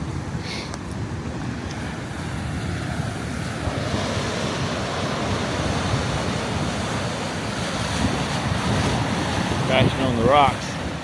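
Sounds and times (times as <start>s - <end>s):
ocean waves crashing on rocks: 0.0s - 11.0s
wind buffeting microphone: 0.0s - 11.0s.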